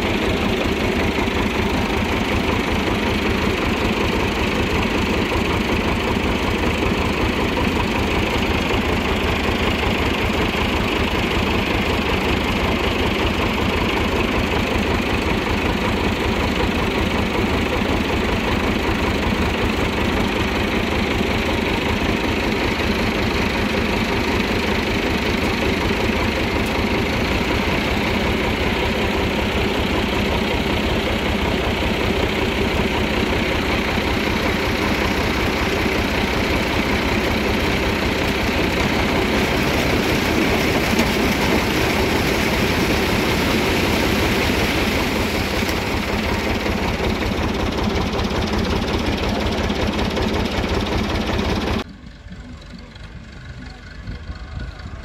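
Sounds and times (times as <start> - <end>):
corn picker machinery running: 0.0 - 55.0
tractor diesel engine running: 0.0 - 55.0.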